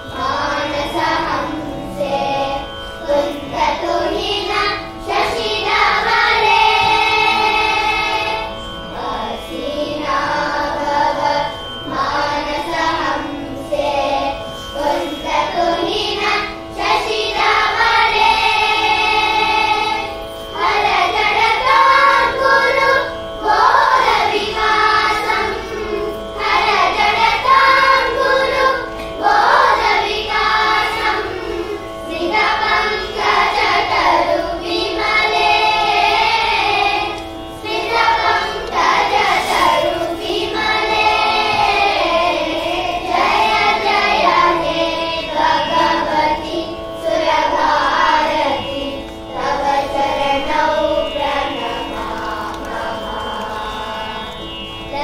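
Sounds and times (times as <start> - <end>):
children singing: 0.0 - 55.0.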